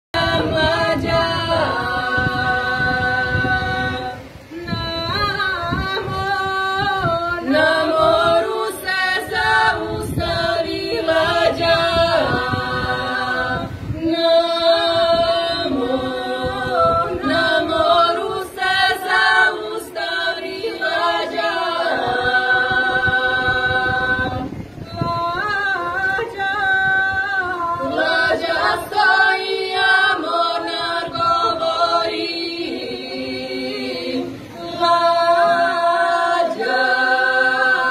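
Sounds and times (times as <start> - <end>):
women singing unaccompanied: 0.1 - 37.9.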